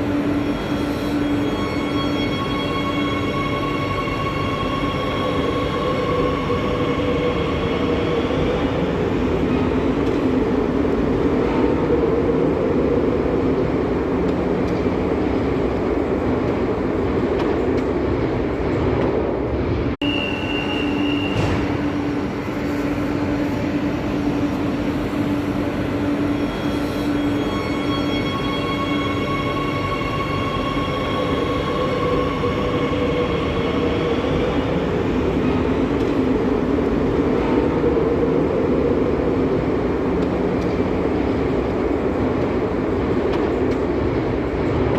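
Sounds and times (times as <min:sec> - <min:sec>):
electric train rumbling on rails: 0:00.0 - 0:44.9.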